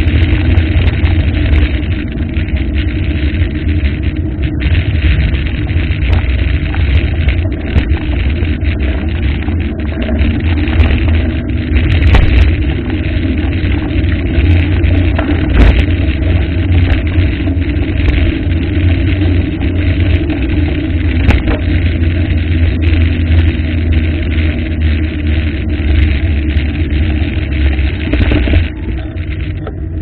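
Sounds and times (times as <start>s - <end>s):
deep rumble: 0.0s - 30.0s.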